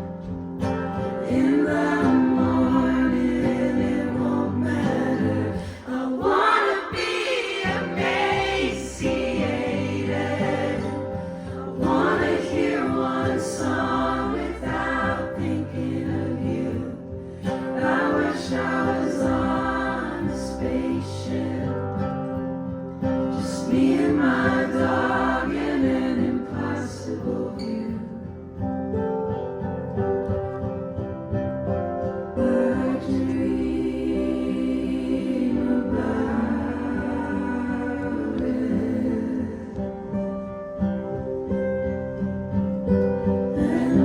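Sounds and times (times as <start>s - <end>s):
acoustic accompaniment: 0.0s - 44.0s
women singing in harmony: 0.6s - 28.7s, 32.3s - 41.2s, 43.2s - 44.0s.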